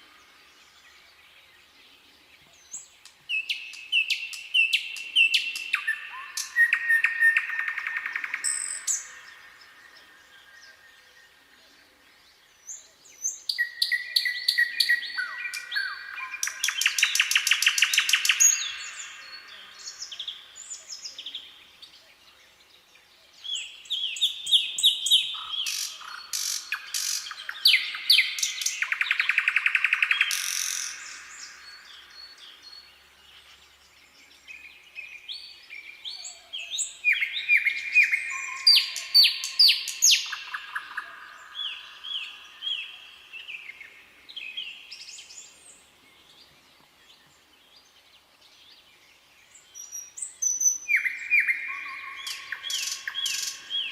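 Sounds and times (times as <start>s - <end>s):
nightingale singing: 0.0s - 53.9s.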